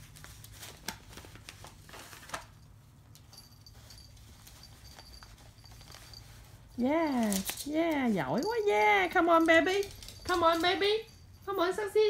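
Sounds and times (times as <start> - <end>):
gift wrap rustling: 0.0 - 10.8.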